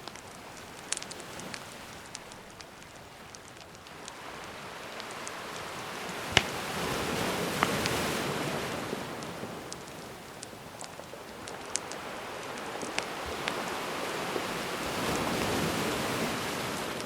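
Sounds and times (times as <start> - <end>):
campfire crackling: 0.0 - 17.0
ocean wave washing: 0.1 - 17.0.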